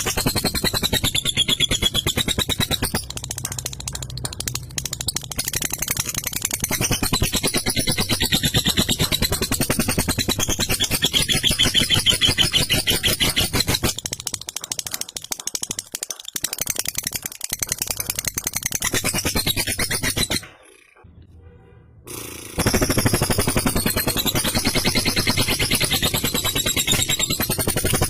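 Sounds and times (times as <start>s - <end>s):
lovebird rattling chatter: 0.0s - 20.9s, 22.6s - 28.0s.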